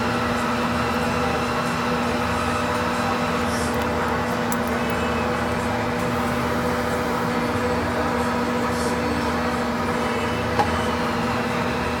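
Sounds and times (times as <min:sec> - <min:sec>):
lathe running: 0:00.0 - 0:12.0.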